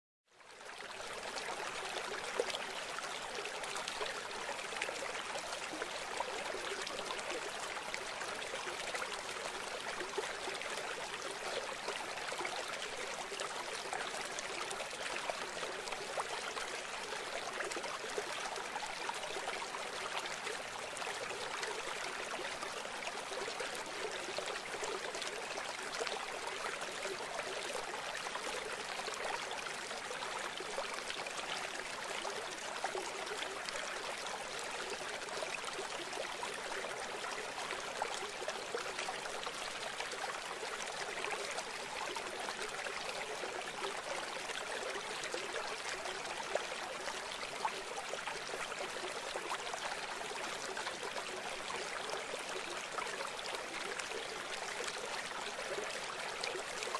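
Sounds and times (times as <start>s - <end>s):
rushing stream water: 0.4s - 56.9s.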